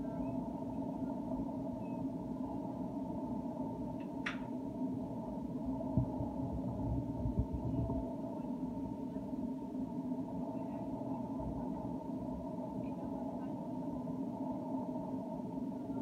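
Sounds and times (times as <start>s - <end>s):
low droning hum: 0.0s - 16.0s.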